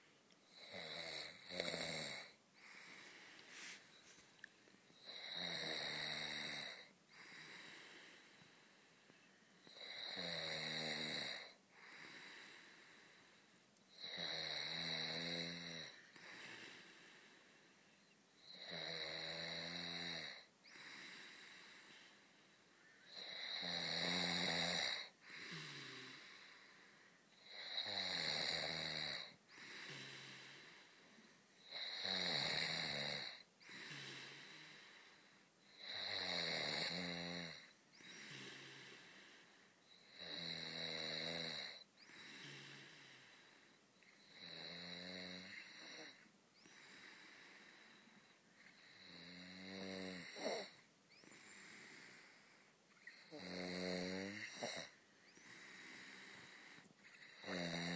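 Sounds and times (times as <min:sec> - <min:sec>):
man snoring: 0:00.5 - 0:03.8, 0:05.0 - 0:08.4, 0:09.6 - 0:13.1, 0:13.9 - 0:17.1, 0:18.4 - 0:22.0, 0:23.1 - 0:26.6, 0:27.4 - 0:31.0, 0:31.6 - 0:52.4, 0:53.0 - 0:57.9.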